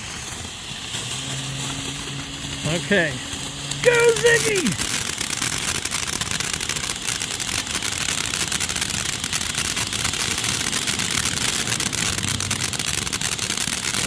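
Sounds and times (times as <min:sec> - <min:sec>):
fine crackle of sparks: 0:00.0 - 0:14.0
firework fountain hissing: 0:00.0 - 0:14.0.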